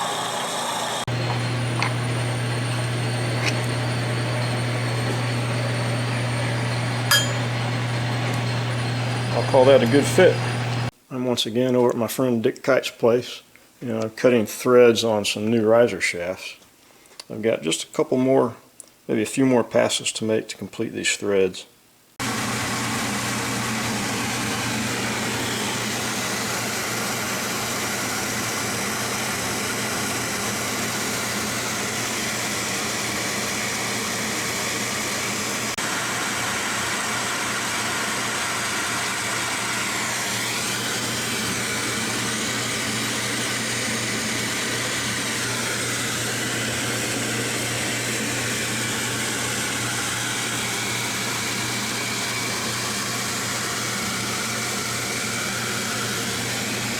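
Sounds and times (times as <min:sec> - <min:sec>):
metal lathe running: 0:00.0 - 0:10.9, 0:22.2 - 0:56.9.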